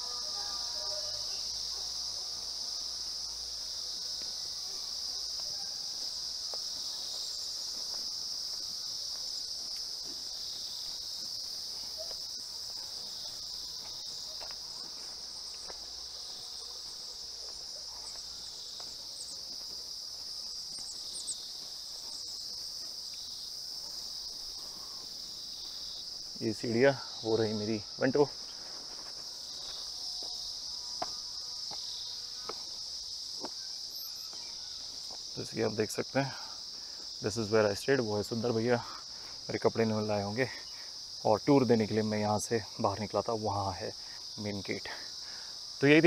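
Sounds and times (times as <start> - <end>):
shrill insect chorus: 0.0 - 46.0.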